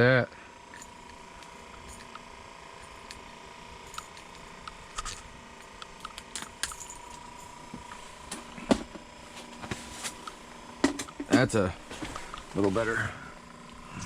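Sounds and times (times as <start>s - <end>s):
fishing gear clicks and rustles: 0.7s - 13.6s.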